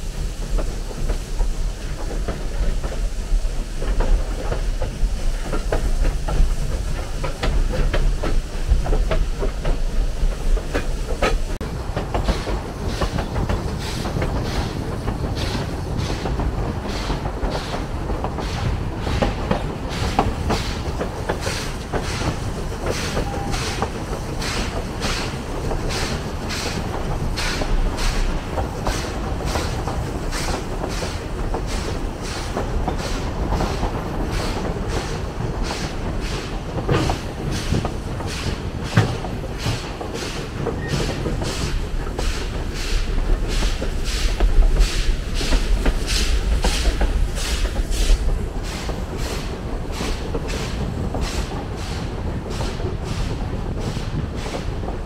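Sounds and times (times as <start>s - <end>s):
train rumbling and clattering: 0.0s - 55.0s.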